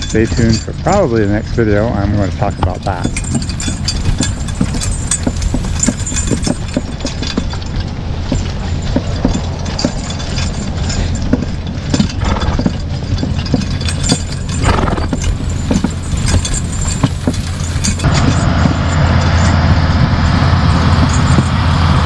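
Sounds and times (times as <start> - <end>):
heavy machinery engine running: 0.0 - 22.0
horse hooves clopping: 0.0 - 22.0.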